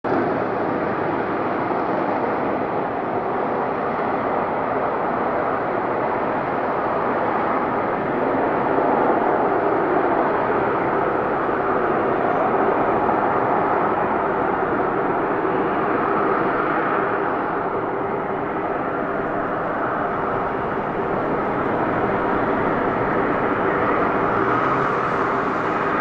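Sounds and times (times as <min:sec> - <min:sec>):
loud jet engine rush: 0:00.2 - 0:26.0.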